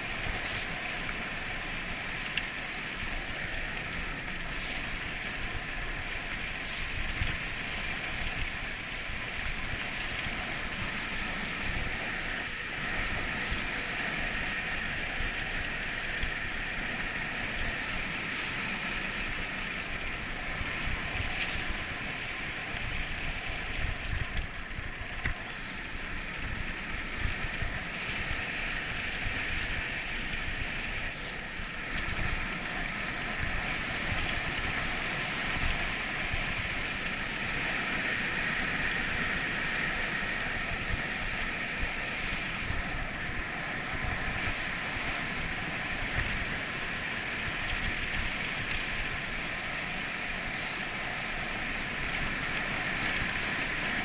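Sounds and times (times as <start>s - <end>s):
wind and tyres rushing: 0.0s - 54.0s.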